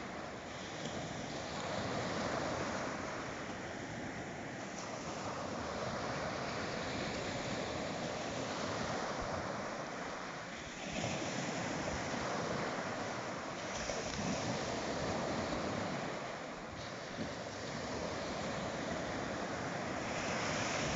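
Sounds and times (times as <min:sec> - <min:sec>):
sea waves breaking on shore: 0:00.0 - 0:20.9
wind noise on microphone: 0:00.0 - 0:20.9.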